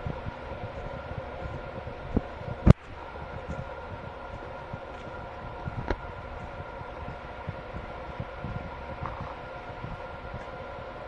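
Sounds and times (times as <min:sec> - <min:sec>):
footsteps on leafy forest path: 0:00.0 - 0:09.8
faint steady hum: 0:00.0 - 0:11.0
low thumps: 0:00.0 - 0:11.0.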